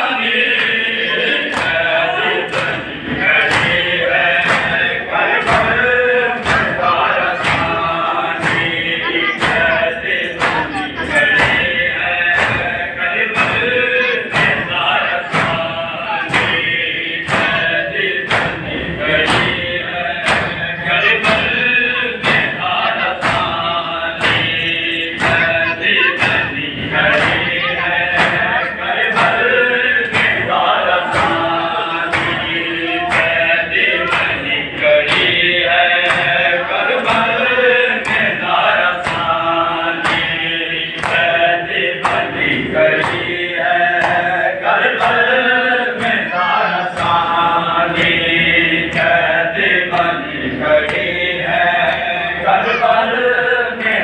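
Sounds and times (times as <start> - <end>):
men chanting in unison: 0.0 - 54.0
rhythmic chest beating: 0.0 - 54.0.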